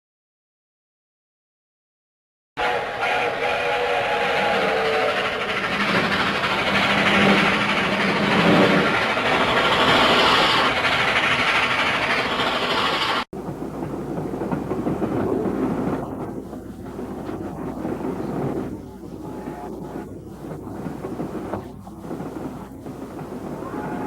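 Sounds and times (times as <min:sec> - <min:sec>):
train rattling: 0:02.6 - 0:24.0.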